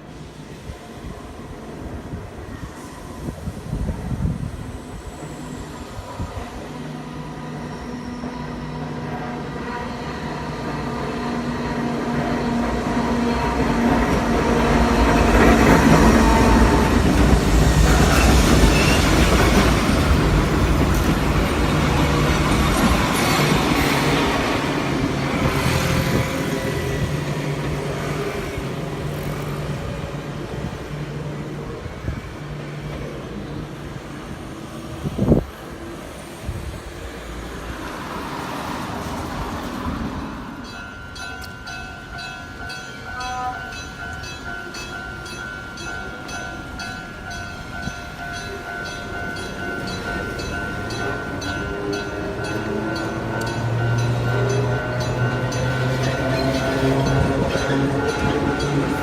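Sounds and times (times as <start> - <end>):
electric train passing: 0.0 - 59.0.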